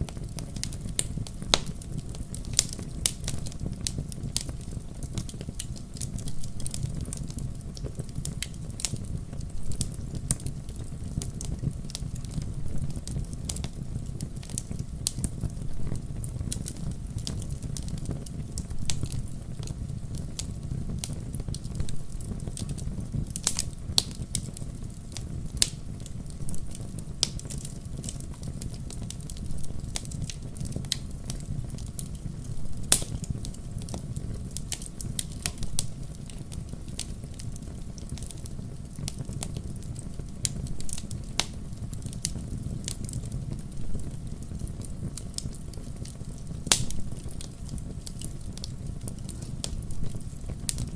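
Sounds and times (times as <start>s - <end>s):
fire crackling: 0.0s - 50.9s.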